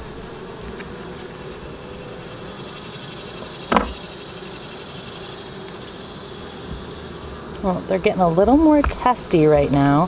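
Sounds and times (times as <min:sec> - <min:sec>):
bee flying past microphone: 0:00.0 - 0:10.0
honeybees buzzing: 0:00.0 - 0:10.0.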